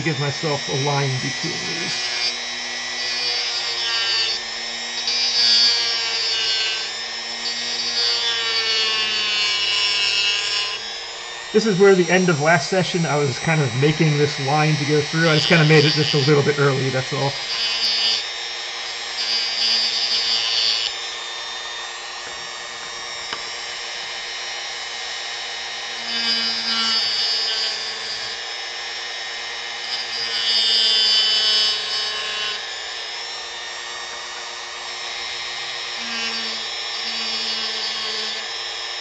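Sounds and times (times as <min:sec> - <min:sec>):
bit grinding into wood: 0:00.0 - 0:24.6, 0:25.2 - 0:39.0
rotary tool whining: 0:00.0 - 0:39.0.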